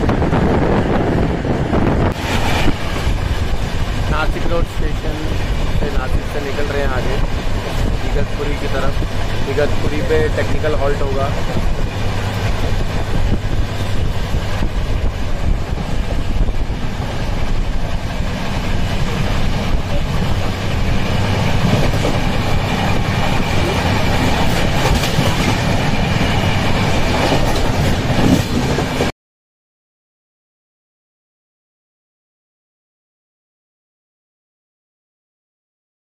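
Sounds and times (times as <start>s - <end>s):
train wheels on rails: 0.0s - 29.1s.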